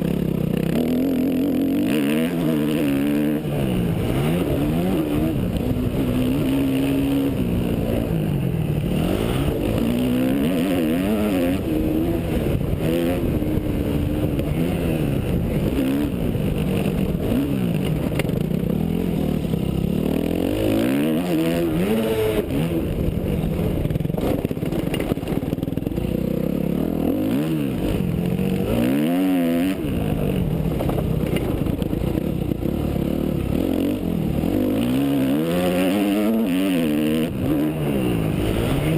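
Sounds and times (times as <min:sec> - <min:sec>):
motocross engine revving: 0:00.0 - 0:38.9.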